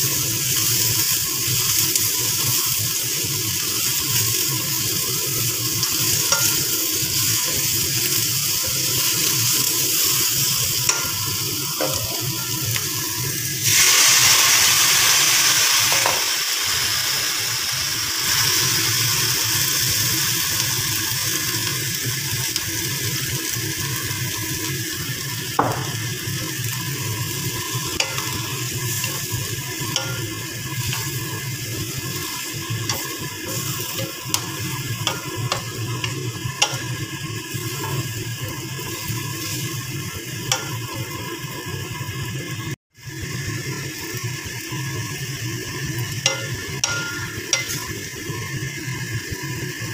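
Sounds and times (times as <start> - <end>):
vegetables sizzling in wok: 0.0 - 49.9.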